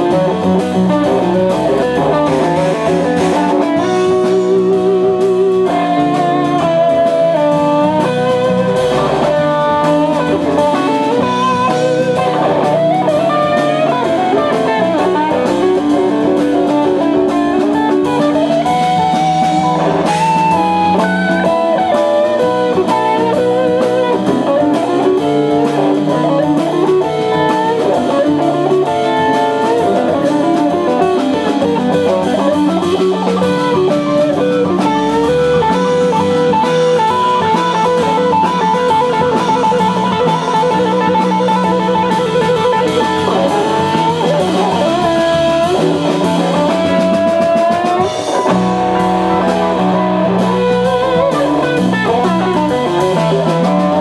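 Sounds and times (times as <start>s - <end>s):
bass guitar: 0.0s - 54.0s
drum kit: 0.0s - 54.0s
electric guitar lead: 0.0s - 54.0s.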